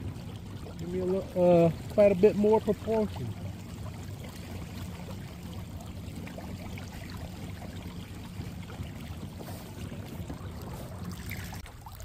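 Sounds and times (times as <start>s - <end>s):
water washing along hull: 0.0s - 12.0s.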